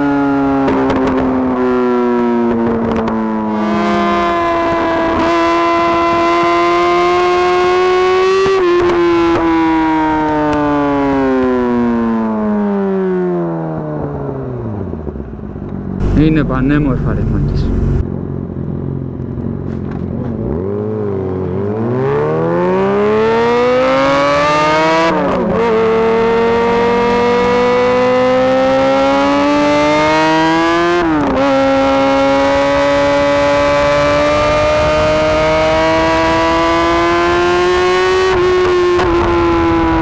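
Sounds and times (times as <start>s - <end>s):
motorcycle engine accelerating: 0.6s - 10.0s, 15.8s - 40.0s.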